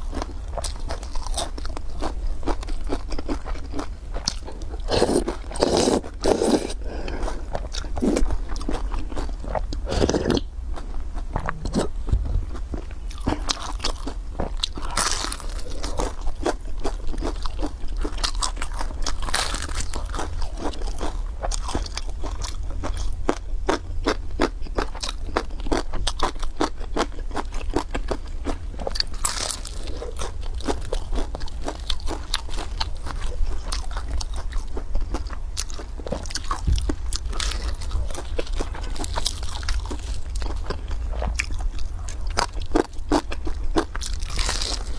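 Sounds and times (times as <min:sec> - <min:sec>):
chewing: 0:00.0 - 0:44.9
crisp pie crust crunching: 0:00.0 - 0:44.9.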